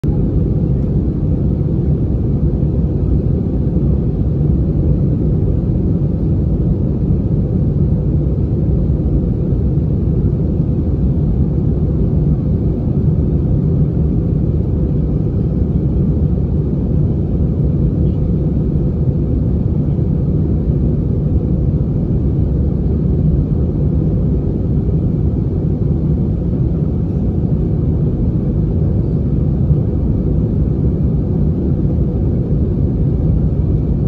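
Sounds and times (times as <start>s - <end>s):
jet cabin engine rumble: 0.0s - 34.0s.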